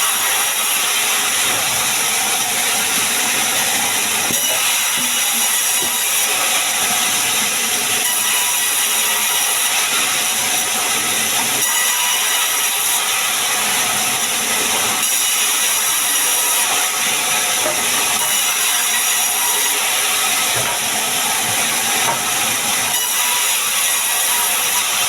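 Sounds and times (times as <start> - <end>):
sawmill saw cutting wood: 0.0 - 25.0.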